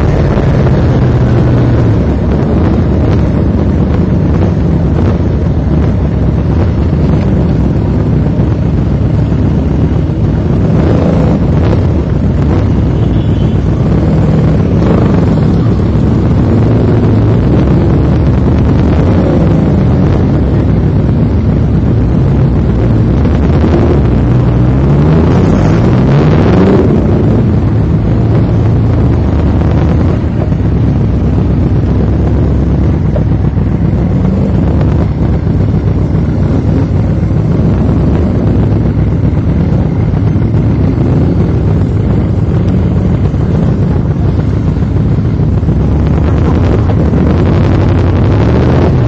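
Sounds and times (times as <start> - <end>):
motorcycle engine accelerating: 0.0 - 49.0
wind rumbling on microphone: 0.0 - 49.0.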